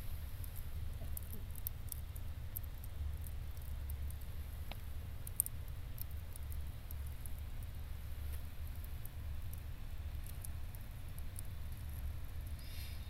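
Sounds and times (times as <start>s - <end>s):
campfire embers crackling: 0.0s - 13.0s
fire popping: 0.0s - 13.0s.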